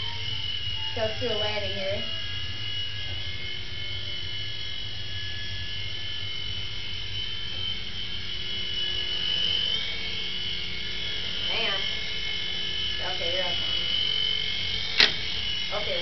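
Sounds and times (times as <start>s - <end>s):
toy helicopter motor whine: 0.0s - 16.0s.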